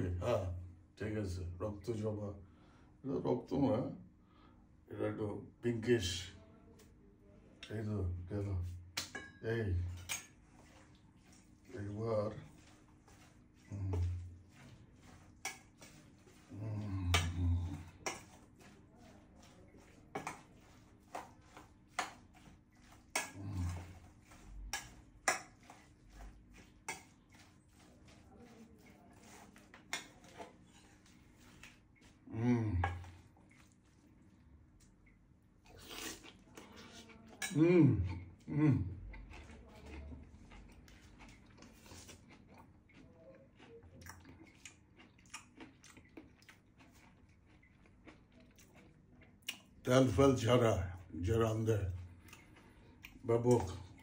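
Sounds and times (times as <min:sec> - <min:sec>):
person chewing food: 0:09.8 - 0:54.0.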